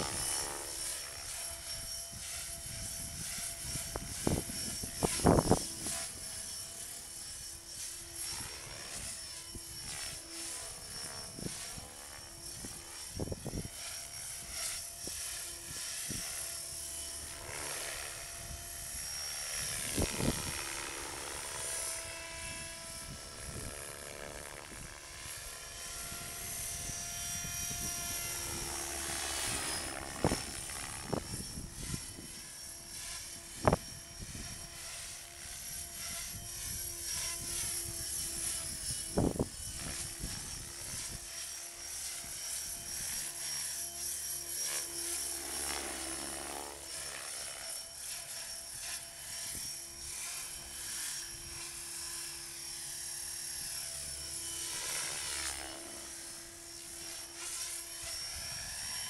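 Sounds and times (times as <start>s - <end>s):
rc helicopter motor whine: 0.0s - 59.0s.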